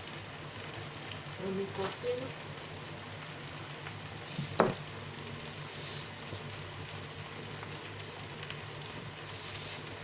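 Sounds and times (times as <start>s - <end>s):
stew sizzling in a frying pan: 0.0s - 10.0s.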